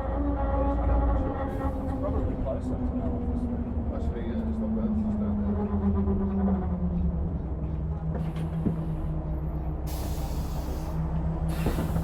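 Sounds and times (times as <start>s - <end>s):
bus engine droning: 0.0s - 12.0s.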